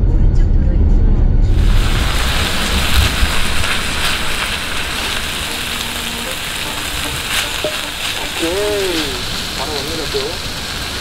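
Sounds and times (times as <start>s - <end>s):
meat sizzling on a grill pan: 1.6s - 11.0s.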